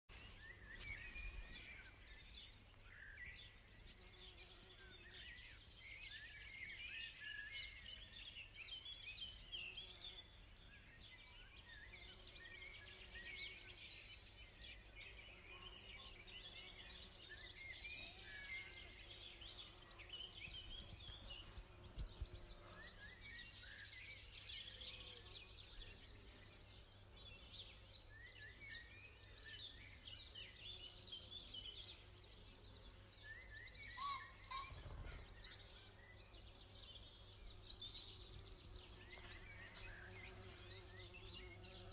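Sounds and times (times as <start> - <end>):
birds chirping and warbling: 0.1 - 41.9.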